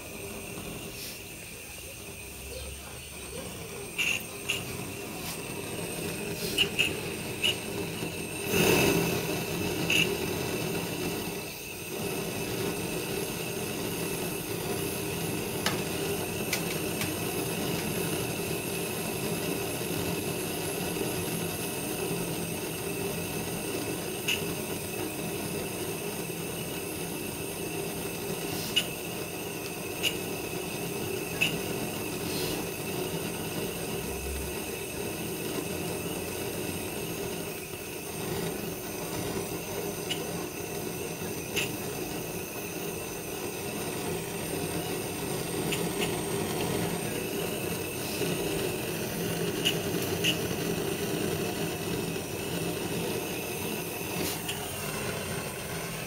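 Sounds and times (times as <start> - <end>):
torch hissing: 0.0 - 56.0.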